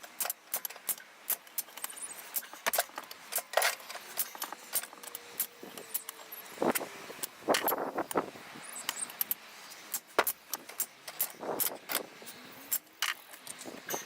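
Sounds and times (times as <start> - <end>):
steel tools clinking: 0.0 - 7.8, 8.8 - 14.0.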